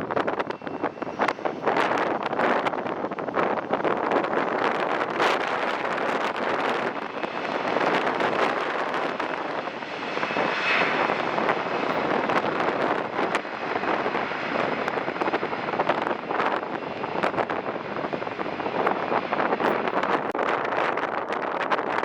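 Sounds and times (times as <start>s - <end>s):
jet engines running: 0.0s - 22.0s
wind buffeting microphone: 0.0s - 22.0s.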